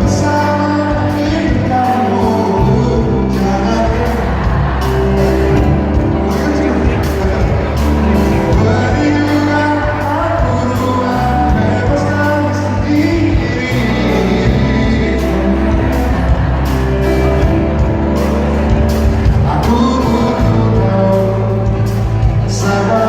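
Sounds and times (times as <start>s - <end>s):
live pop band playing: 0.0s - 23.0s
man singing a ballad: 0.0s - 23.0s.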